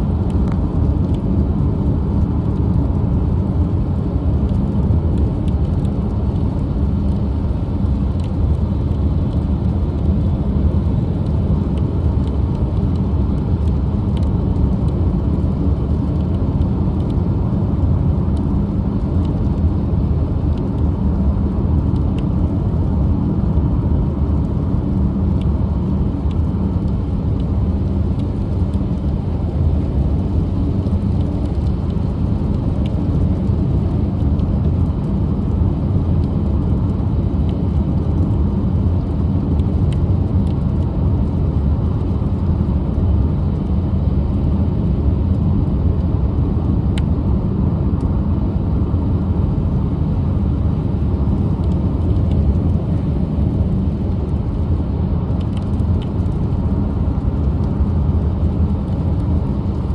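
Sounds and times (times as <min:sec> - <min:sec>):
car engine and tyre noise: 0:00.0 - 0:59.9
rain ticking on windows: 0:00.0 - 0:59.9.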